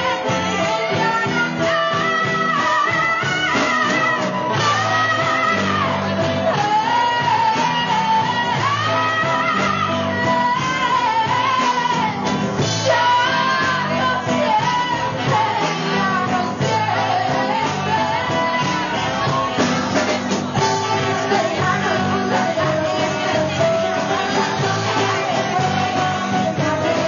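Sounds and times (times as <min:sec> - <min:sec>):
live rock band playing: 0:00.0 - 0:27.0
woman singing: 0:00.0 - 0:27.0.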